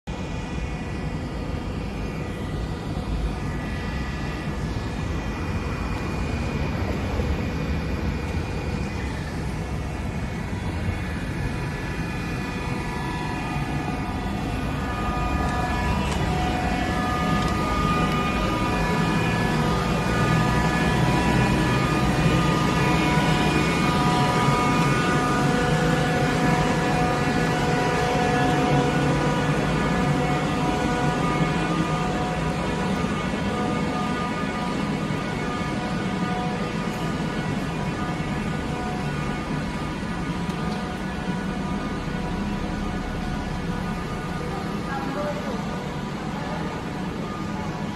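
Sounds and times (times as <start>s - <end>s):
mechanical running noise: 0.1s - 47.9s
steady machine tones: 0.1s - 47.9s.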